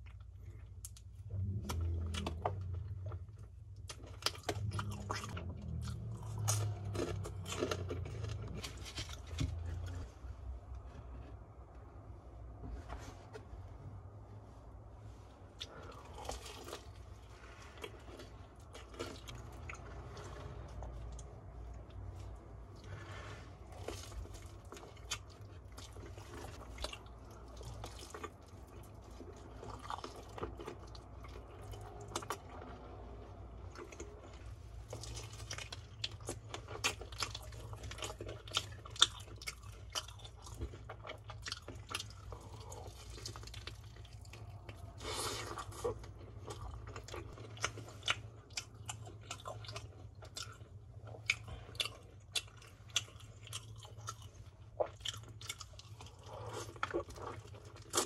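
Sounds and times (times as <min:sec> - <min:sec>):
chewing crispy fried chicken: 0:00.0 - 0:11.8, 0:15.3 - 0:58.0.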